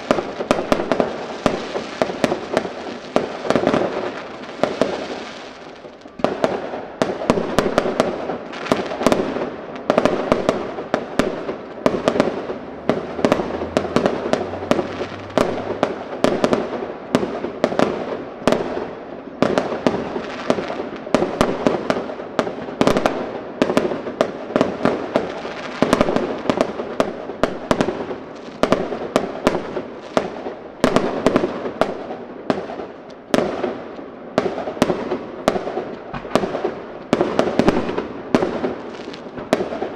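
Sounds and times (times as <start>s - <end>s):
fireworks bangs: 0.0s - 39.9s
fireworks crackle: 0.0s - 39.9s.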